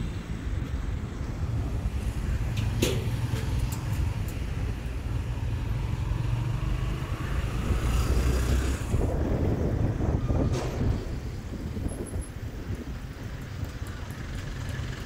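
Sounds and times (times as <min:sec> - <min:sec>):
motorbike engine and traffic rumble: 0:00.0 - 0:15.0
wind on microphone: 0:00.5 - 0:14.0.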